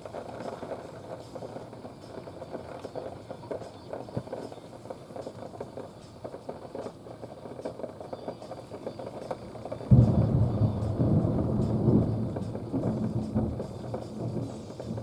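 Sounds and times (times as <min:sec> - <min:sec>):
heavy rain on hard surfaces: 0:00.0 - 0:15.0.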